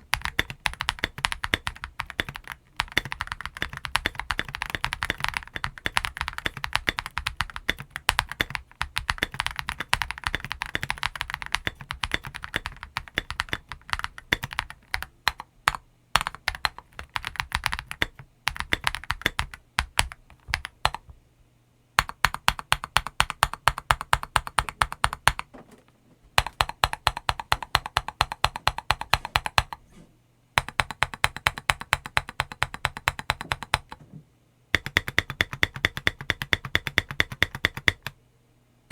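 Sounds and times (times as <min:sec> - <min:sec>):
mechanical keyboard typing: 0:00.0 - 0:21.2, 0:22.0 - 0:25.5, 0:26.4 - 0:29.8, 0:30.6 - 0:34.0, 0:34.7 - 0:38.2.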